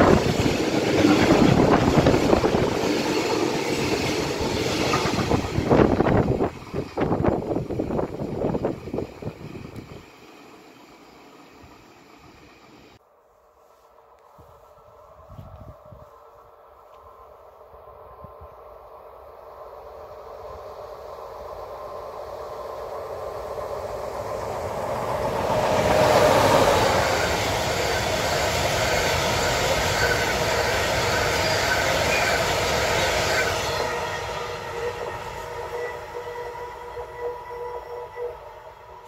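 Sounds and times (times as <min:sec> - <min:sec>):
freight train rumbling past: 0:00.0 - 0:13.0, 0:14.4 - 0:39.0.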